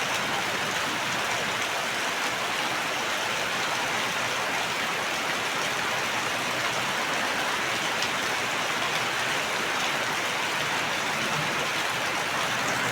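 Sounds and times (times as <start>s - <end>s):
steady rain: 0.0s - 12.9s.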